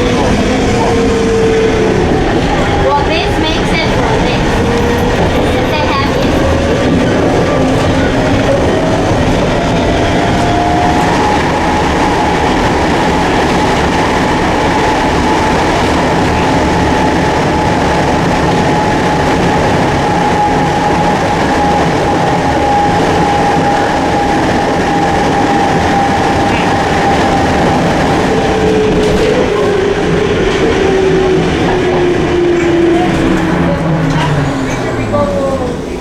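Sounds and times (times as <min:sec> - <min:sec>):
electric train rumbling on rails: 0:00.0 - 0:36.0.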